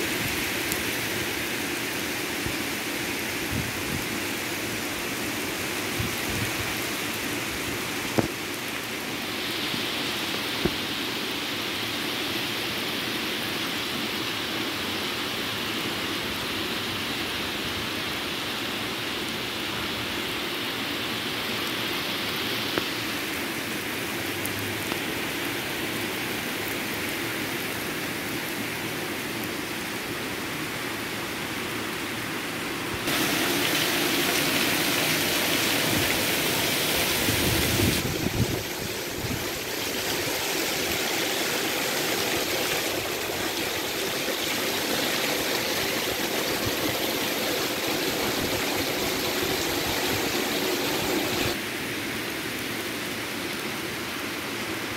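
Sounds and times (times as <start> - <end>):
heavy rain on roofs and trees: 0.0 - 54.9.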